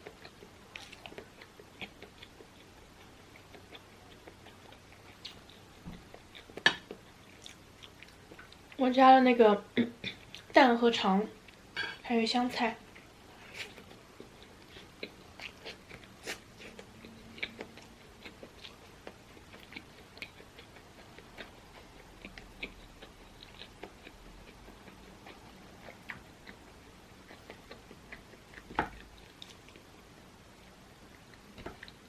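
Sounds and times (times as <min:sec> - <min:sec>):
person chewing food: 0:00.0 - 0:08.8, 0:09.8 - 0:10.6, 0:12.8 - 0:32.0.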